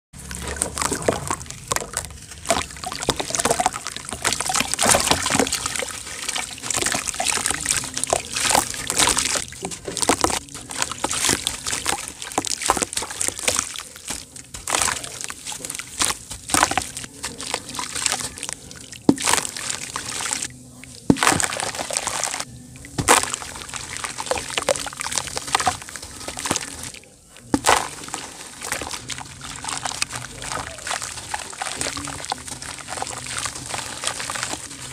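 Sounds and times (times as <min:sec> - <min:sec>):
grit splattering into water: 0:00.2 - 0:34.9.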